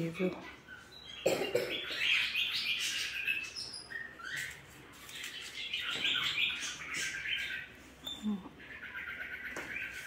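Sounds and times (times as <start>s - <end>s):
pet bird chirping: 0.0s - 10.0s.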